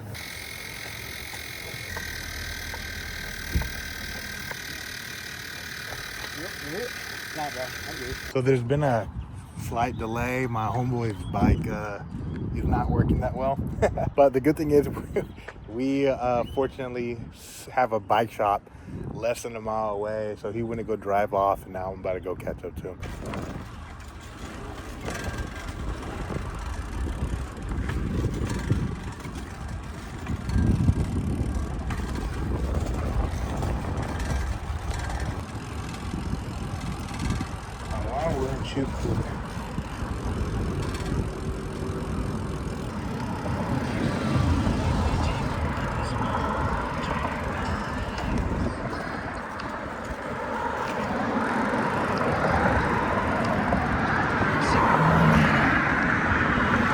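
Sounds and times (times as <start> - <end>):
bicycle road noise: 0.0 - 22.0, 22.9 - 56.9
wind rushing over microphone: 8.4 - 17.5, 18.1 - 20.9, 21.7 - 56.9.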